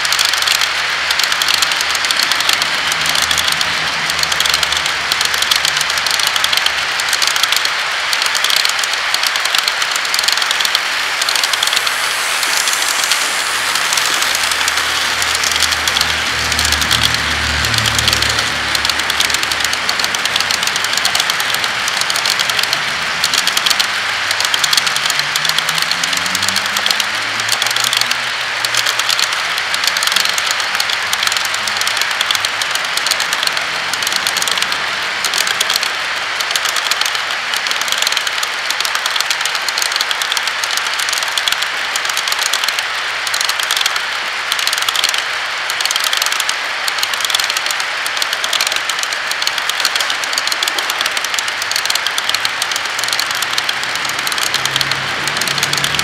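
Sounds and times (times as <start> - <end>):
model train rumbling on track: 0.0 - 56.0.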